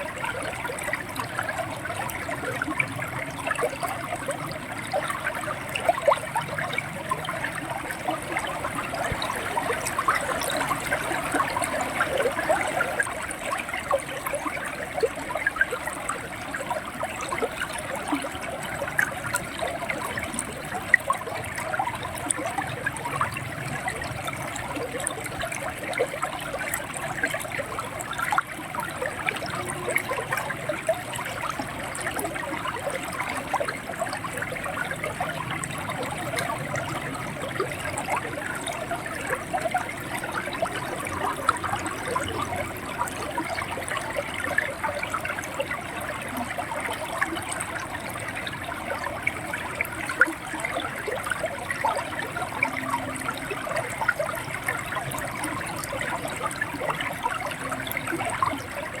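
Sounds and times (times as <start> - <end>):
river water flowing and gurgling: 0.0 - 59.0
small water splashes: 0.0 - 59.0.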